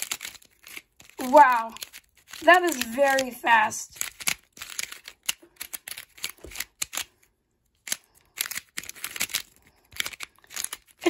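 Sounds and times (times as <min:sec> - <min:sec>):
plastic puzzle clicking: 0:00.0 - 0:11.0.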